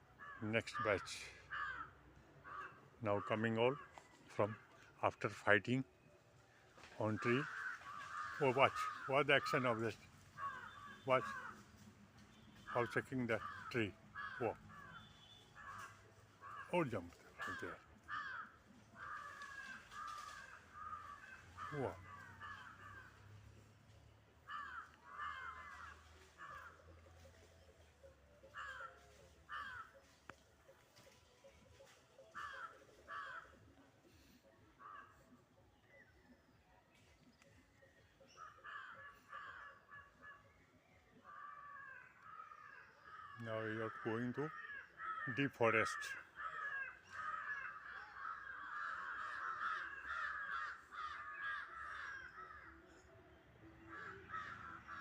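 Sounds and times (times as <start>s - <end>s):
crow cawing: 0.1s - 5.5s, 6.8s - 27.5s, 28.3s - 36.1s, 37.2s - 53.1s, 53.7s - 55.0s.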